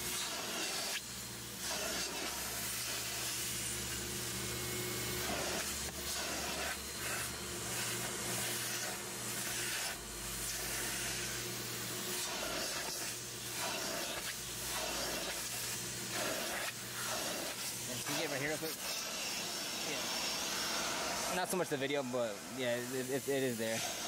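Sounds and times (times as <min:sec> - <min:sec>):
suction hiss on fabric: 0:00.0 - 0:04.0, 0:05.2 - 0:24.0
carpet extractor motor hum: 0:00.0 - 0:24.0.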